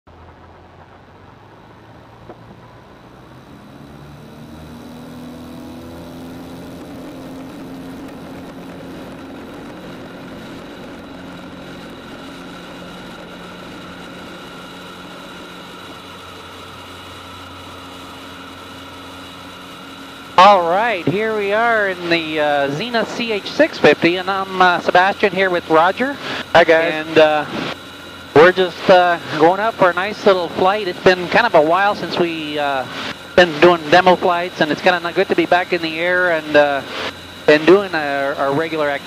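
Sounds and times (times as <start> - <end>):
light aircraft engine running: 0.1 - 39.0.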